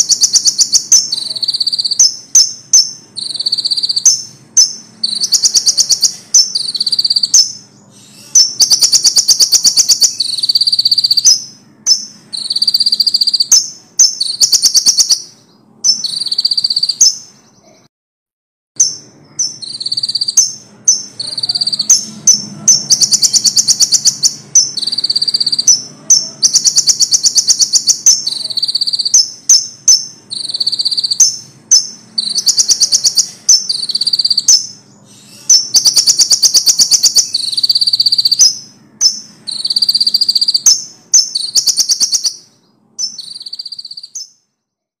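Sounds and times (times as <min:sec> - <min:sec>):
bird singing rattling trills: 0:00.0 - 0:17.3, 0:18.8 - 0:44.4.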